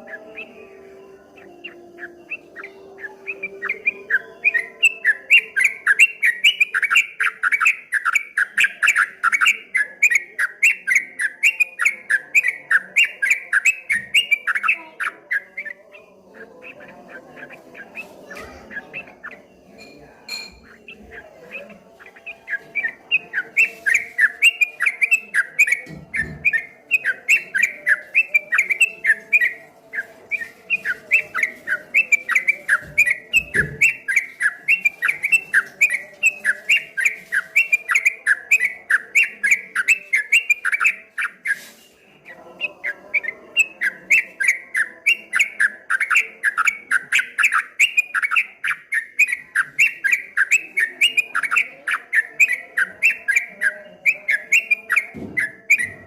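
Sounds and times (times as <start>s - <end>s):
bird singing rapid chirps: 0.0s - 56.0s.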